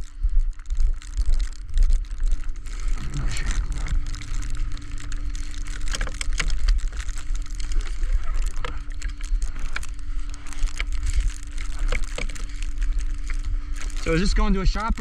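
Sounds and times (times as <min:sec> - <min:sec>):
low rumble with thin hum: 0:00.0 - 0:15.0.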